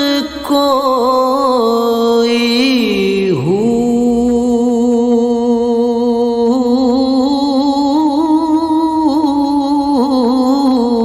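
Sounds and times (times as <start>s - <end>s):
man singing a long held note: 0.0s - 11.0s.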